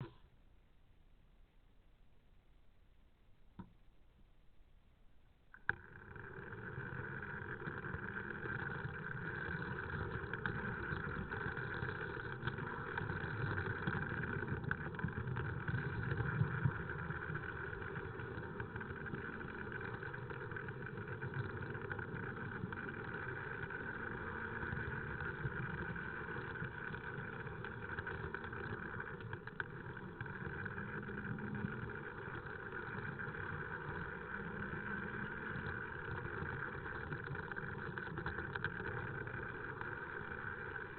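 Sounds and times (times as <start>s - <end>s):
model train wheels rumbling: 5.7s - 40.9s.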